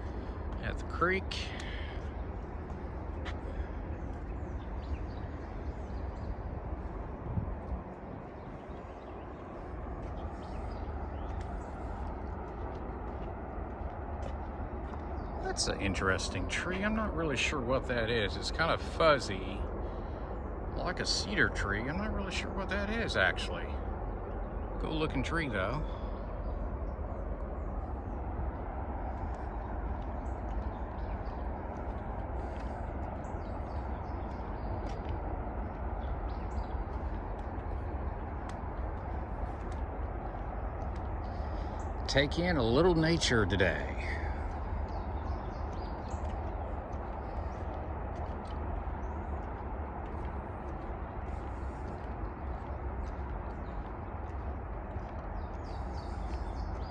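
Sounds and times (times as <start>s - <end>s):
birds chirping: 0.0s - 56.9s
low outdoor rumble: 0.0s - 56.9s.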